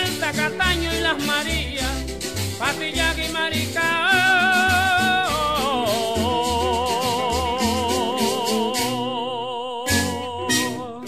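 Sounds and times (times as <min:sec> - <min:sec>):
shaken percussion: 0:00.0 - 0:09.0
rhythmic accompaniment: 0:00.0 - 0:09.3, 0:09.9 - 0:11.0.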